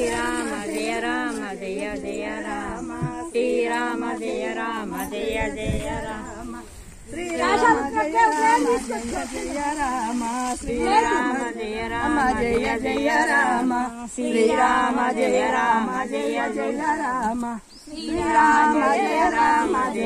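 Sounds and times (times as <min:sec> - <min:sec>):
group singing without instruments: 0:00.0 - 0:20.0.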